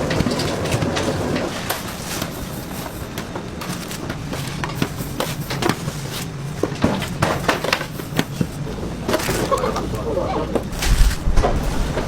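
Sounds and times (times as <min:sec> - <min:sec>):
machinery clicking and clattering: 0:00.0 - 0:12.0
machinery humming: 0:00.0 - 0:12.0.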